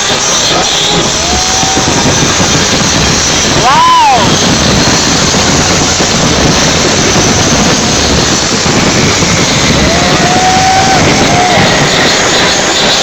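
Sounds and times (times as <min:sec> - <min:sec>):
crowd noise: 0:00.0 - 0:13.0
fireworks bangs and crackle: 0:00.0 - 0:13.0
fireworks whistles: 0:00.0 - 0:13.0.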